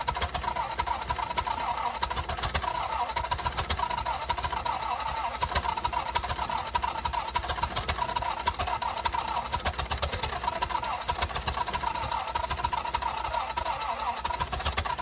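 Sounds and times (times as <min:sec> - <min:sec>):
welder engine running: 0:00.0 - 0:15.0.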